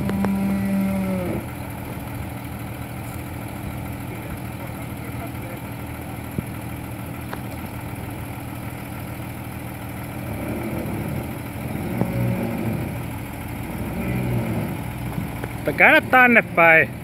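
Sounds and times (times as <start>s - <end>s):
engine running at low speed: 0.0s - 17.0s.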